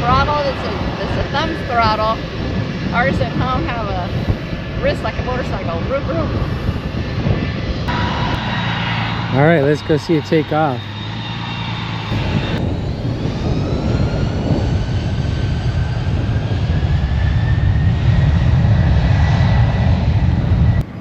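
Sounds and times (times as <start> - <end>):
airplane taking off: 0.0 - 21.0.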